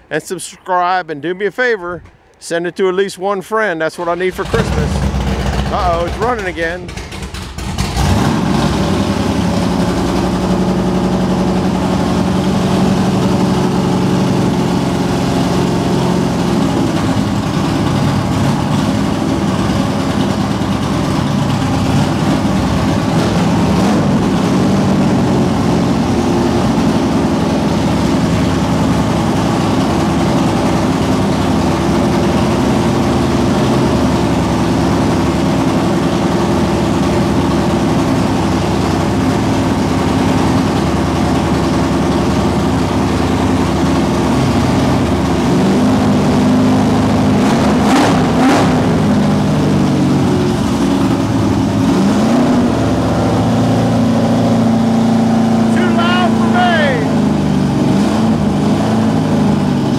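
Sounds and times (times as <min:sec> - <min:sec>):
car engine idling: 0:03.8 - 0:59.9.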